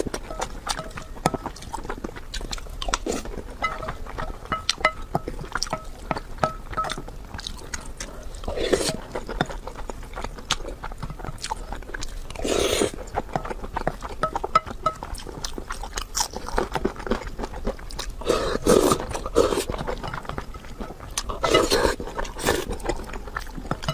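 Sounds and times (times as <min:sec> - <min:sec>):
wet chewing and biting: 0:00.0 - 0:23.9.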